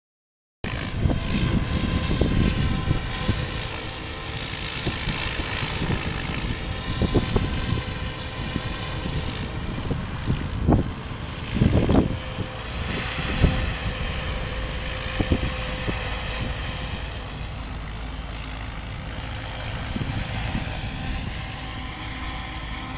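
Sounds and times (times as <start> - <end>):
model helicopter rotor hum: 0.6 - 22.9
wind buffeting microphone: 0.7 - 22.9.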